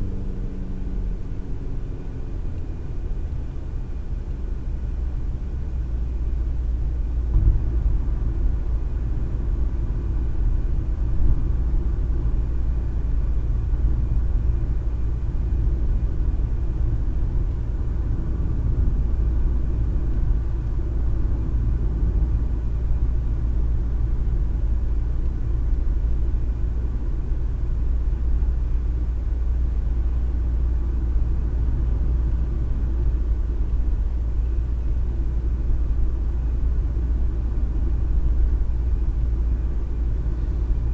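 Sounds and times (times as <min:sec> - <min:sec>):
car interior road rumble: 0:00.0 - 0:40.9.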